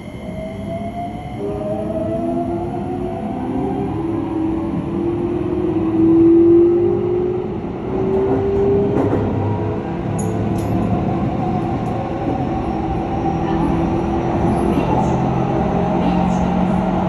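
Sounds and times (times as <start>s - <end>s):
train rumble: 1.3s - 17.0s.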